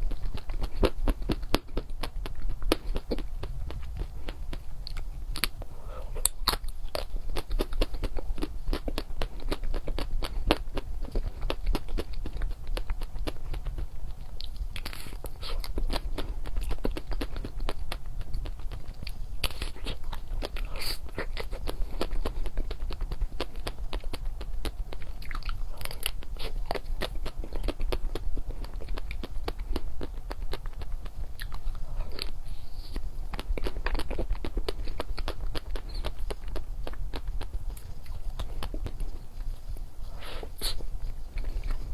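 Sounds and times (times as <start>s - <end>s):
chocolate crunching and chewing: 0.0s - 41.9s.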